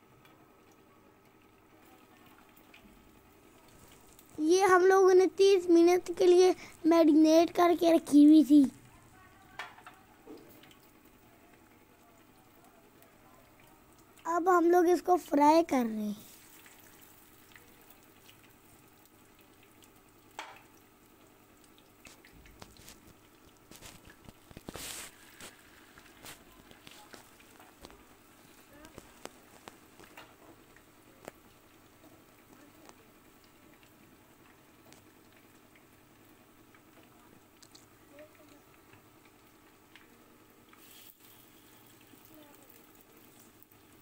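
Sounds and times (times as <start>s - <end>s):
fish sizzling in oil: 0.0s - 44.0s.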